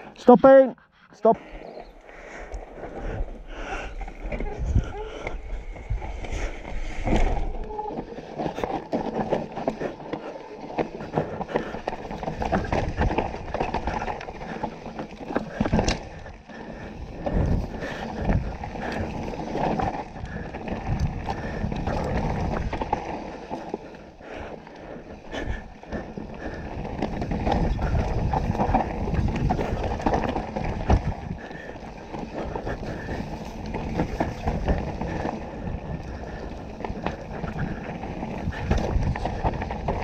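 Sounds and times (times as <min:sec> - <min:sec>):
bike tyres rolling on dirt: 0:01.4 - 0:40.0
bike clicks and rattles: 0:01.6 - 0:40.0
wind buffeting microphone: 0:01.8 - 0:09.8, 0:10.8 - 0:14.9, 0:15.5 - 0:23.2, 0:24.6 - 0:40.0.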